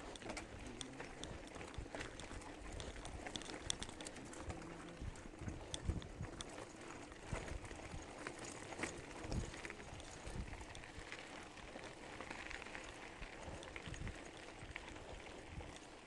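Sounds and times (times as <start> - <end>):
bike rattling and knocking: 0.0 - 16.0
tyres crunching over gravel: 0.0 - 16.0.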